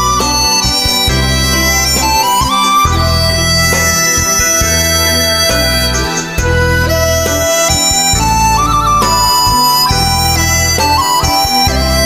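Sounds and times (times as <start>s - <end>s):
held synth lead melody: 0.0s - 12.0s
steady pulsing bass: 0.0s - 12.0s.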